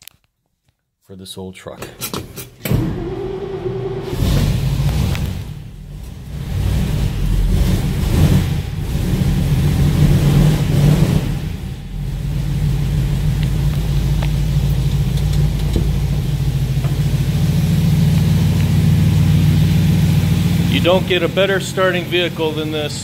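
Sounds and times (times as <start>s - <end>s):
truck engine revving and idling: 2.7s - 23.0s.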